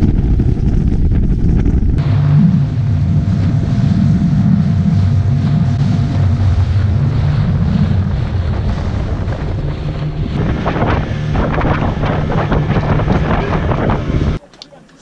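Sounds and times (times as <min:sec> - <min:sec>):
hull slapping through waves: 0:00.0 - 0:14.4
water rushing past hull: 0:00.0 - 0:14.4
wind buffeting microphone: 0:00.0 - 0:14.4
motorboat engine running: 0:00.0 - 0:15.0.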